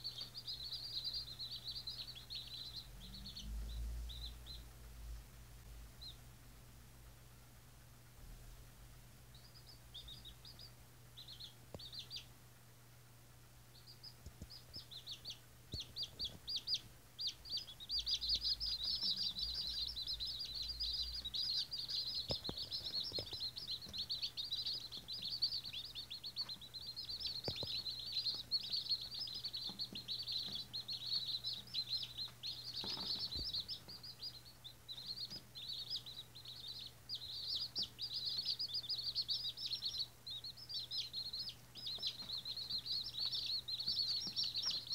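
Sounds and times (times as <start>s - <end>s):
chicks peeping: 0.0s - 44.9s.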